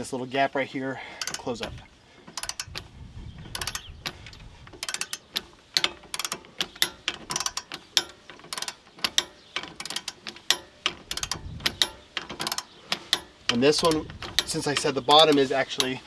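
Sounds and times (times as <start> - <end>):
socket ratchet clicking: 1.2 - 16.0.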